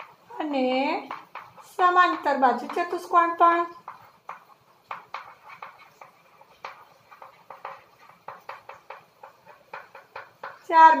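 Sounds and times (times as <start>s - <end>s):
chalk tapping and scratching: 0.0s - 11.0s.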